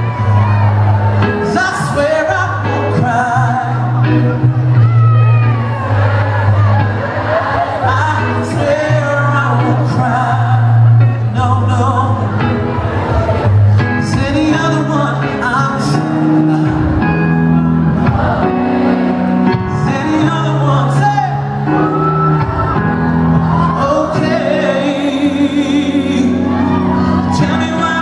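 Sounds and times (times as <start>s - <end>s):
electric bass: 0.0s - 28.0s
electric guitar: 0.0s - 28.0s
male lead vocal: 1.2s - 22.0s, 22.8s - 28.0s.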